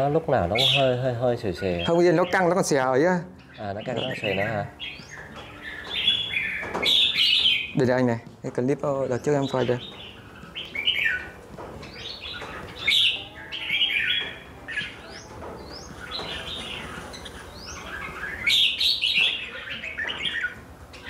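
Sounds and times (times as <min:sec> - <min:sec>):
birds singing warbled phrases: 0:00.0 - 0:21.0.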